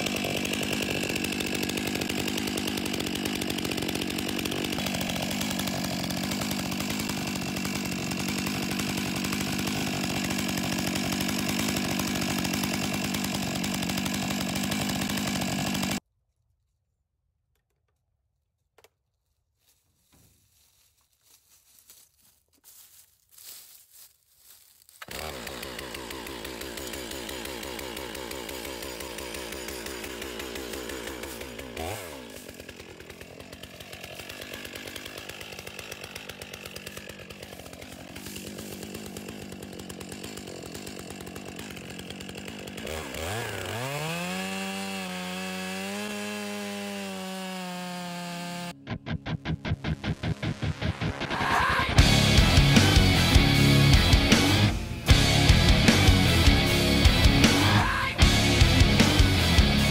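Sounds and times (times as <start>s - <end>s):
chainsaw running: 0.0s - 16.0s, 22.7s - 59.9s.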